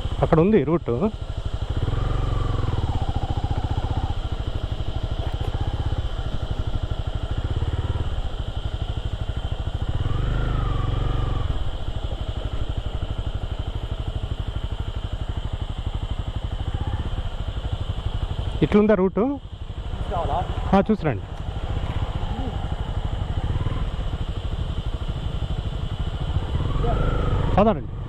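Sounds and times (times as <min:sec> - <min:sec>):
motorcycle engine at low revs: 0:00.0 - 0:28.0.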